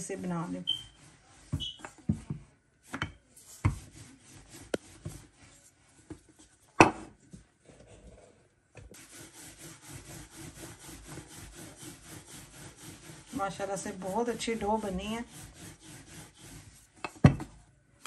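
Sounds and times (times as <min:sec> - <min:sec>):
rolling pin rubbing: 0:00.0 - 0:06.6, 0:08.9 - 0:17.6.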